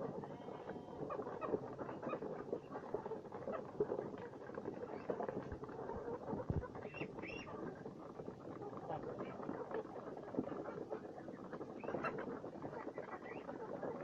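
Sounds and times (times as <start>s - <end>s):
poultry pecking feed: 0.0s - 14.0s.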